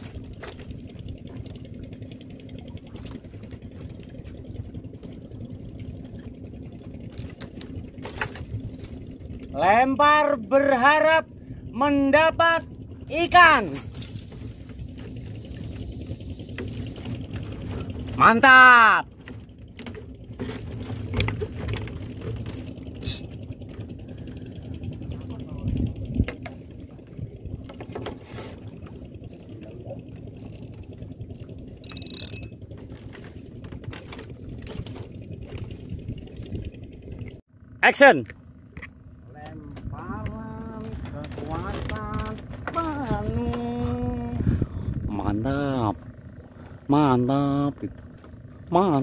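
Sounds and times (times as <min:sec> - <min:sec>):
boat engine humming: 0:00.0 - 0:49.0
water splashing and sloshing: 0:00.0 - 0:49.0.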